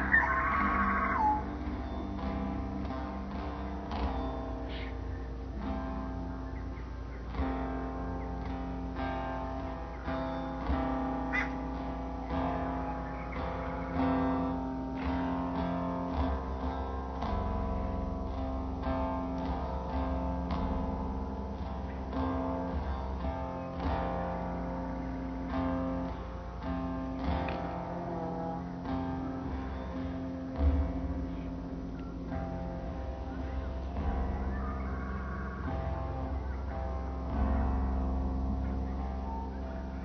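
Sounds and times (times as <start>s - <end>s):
acoustic guitar music: 0.0s - 40.0s.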